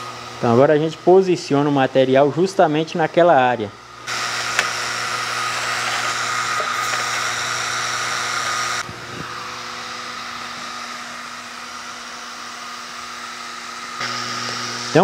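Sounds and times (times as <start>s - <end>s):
air compressor whir and hiss: 0.0s - 15.0s.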